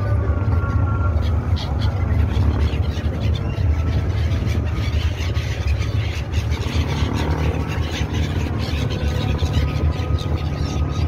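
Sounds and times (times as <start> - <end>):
boat diesel engine droning: 0.0 - 11.0
water noise: 0.0 - 11.0.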